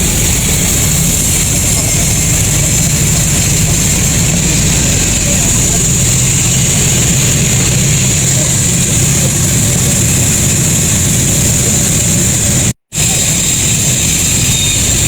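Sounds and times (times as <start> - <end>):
high even hiss: 0.0 - 15.0
sawmill machinery low hum: 0.0 - 15.0.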